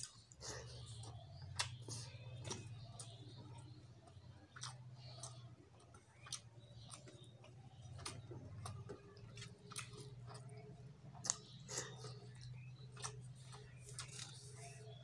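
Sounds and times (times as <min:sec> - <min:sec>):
chewing and mixing food by hand: 0:00.0 - 0:15.0
faint low hum: 0:00.0 - 0:15.0.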